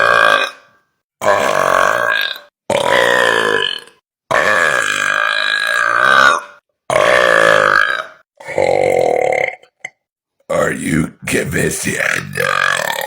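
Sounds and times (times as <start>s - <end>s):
man burping loudly: 1.2s - 13.0s.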